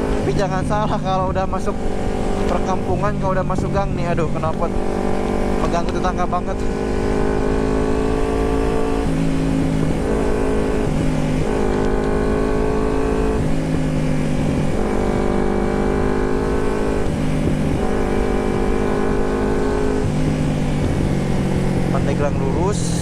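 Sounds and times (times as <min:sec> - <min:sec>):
motorcycle engine with loud exhaust: 0:00.0 - 0:23.0.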